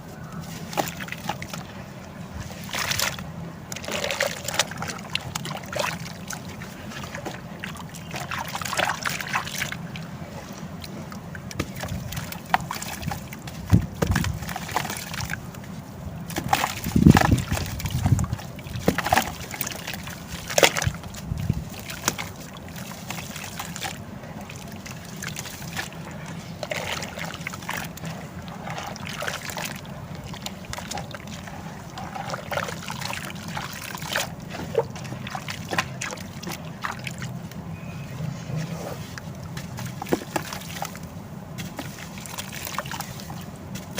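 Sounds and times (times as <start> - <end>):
water splashing and sloshing: 0.0 - 43.9.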